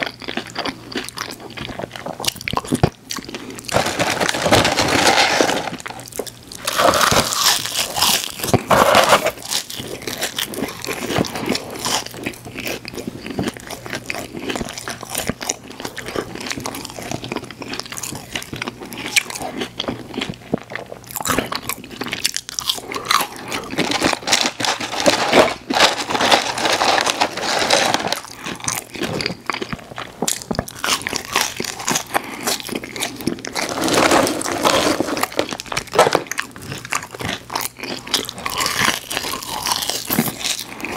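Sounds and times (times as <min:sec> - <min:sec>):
crunching of crispy food: 0:00.0 - 0:40.9.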